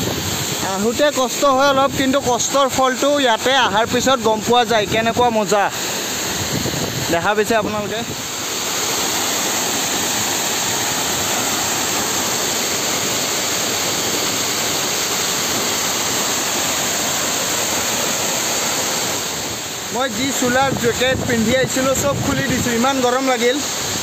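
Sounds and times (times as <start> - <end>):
waterfall splashing onto rocks: 0.0 - 24.0.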